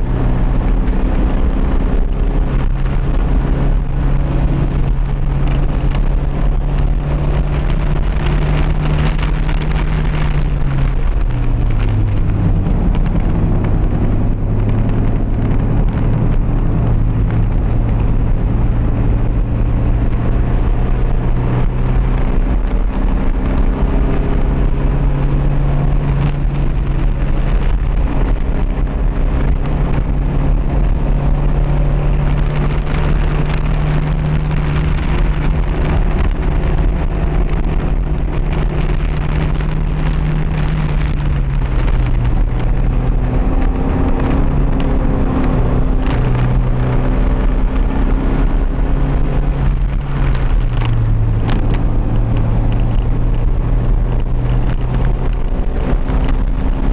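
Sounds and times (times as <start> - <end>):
car engine running hard: 0.0 - 56.9
road and wind noise: 0.0 - 56.9.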